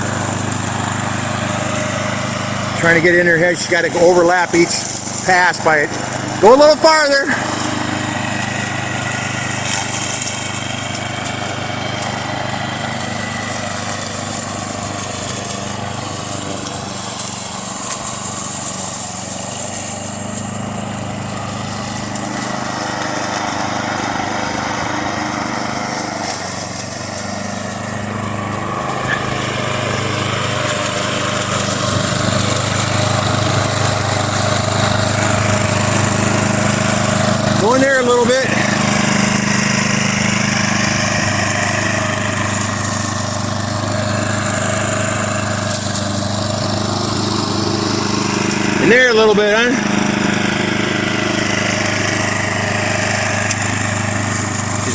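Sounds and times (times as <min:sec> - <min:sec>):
lawn mower engine running: 0:00.0 - 0:54.9.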